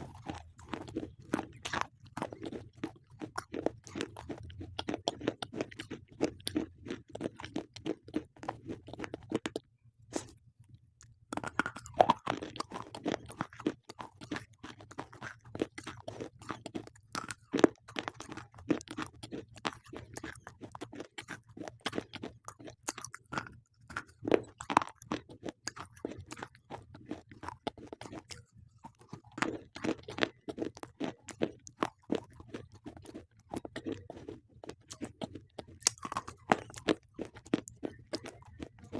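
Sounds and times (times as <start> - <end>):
person crunching slate pencils: 0.0 - 10.3, 11.3 - 38.9.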